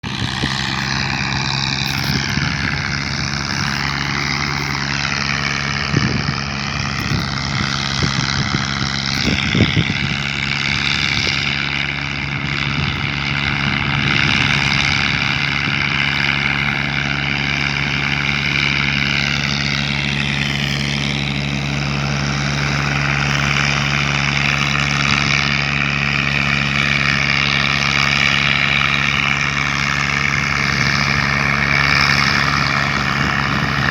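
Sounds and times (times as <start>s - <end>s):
diesel tractor engine running: 0.0s - 33.9s
high whine: 0.0s - 33.9s.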